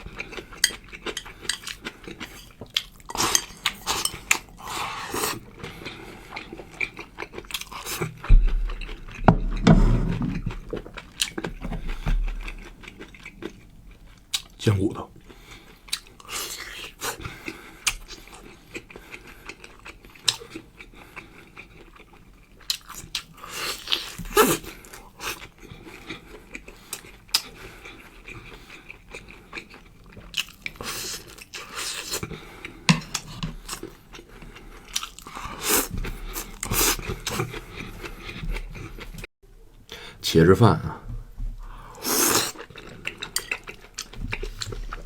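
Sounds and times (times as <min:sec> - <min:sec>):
person chewing bones: 0:00.0 - 0:39.3, 0:41.6 - 0:45.0.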